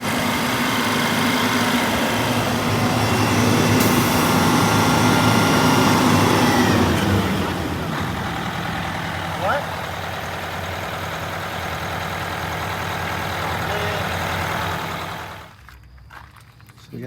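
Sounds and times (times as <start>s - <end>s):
diesel engine running: 0.0s - 15.7s
high engine whine: 0.0s - 16.1s.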